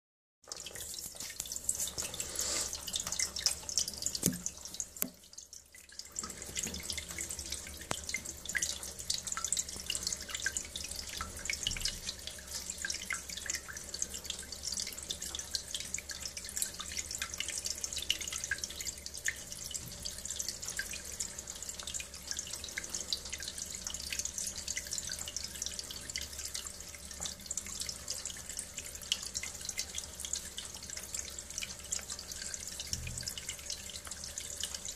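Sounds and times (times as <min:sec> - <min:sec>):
water splashing into sink: 0:00.5 - 0:34.9.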